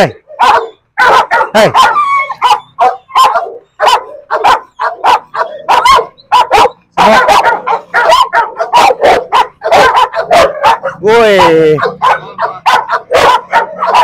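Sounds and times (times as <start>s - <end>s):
dog barking aggressively: 0.1s - 14.0s.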